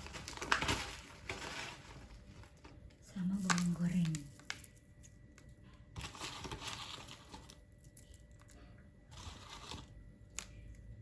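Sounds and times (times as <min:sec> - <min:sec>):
dry rustling and crinkling: 0:00.0 - 0:04.8, 0:05.9 - 0:10.8.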